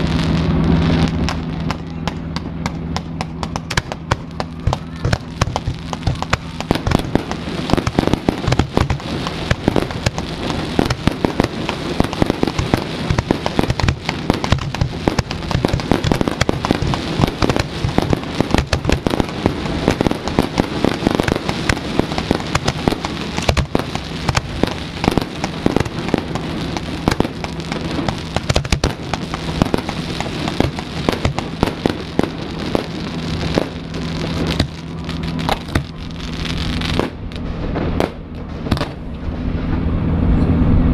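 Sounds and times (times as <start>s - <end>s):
fireworks bangs and crackles: 0.0s - 39.9s
steady low hum: 0.0s - 40.9s.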